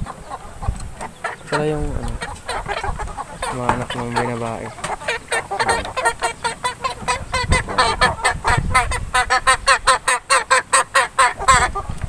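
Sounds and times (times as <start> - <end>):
chicken calling: 0.0 - 12.0.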